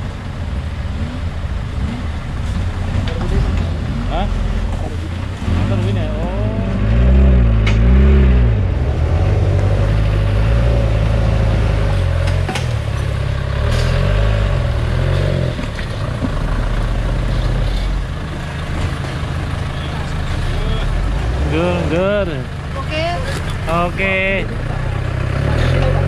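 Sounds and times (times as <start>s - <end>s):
vehicle engine revving under load: 0.7s - 26.0s.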